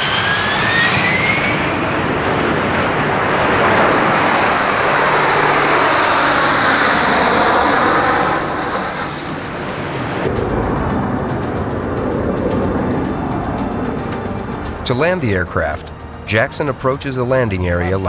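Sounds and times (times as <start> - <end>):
jet engine roar: 0.0 - 17.9.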